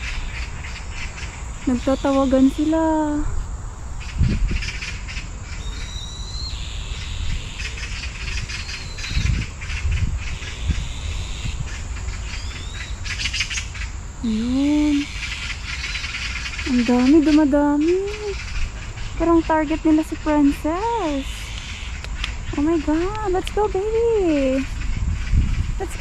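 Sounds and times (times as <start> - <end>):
birds calling and chattering: 0.0 - 26.0.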